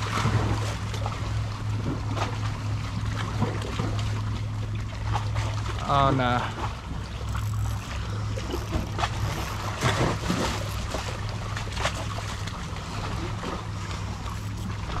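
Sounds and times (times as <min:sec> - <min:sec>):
steady low rumble: 0:00.0 - 0:15.0
waves lapping against rocks: 0:00.0 - 0:15.0.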